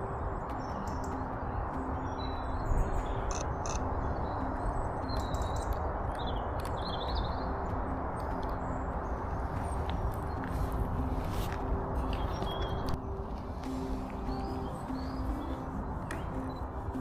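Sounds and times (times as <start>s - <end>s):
songbirds chirping and warbling: 0.0s - 17.0s.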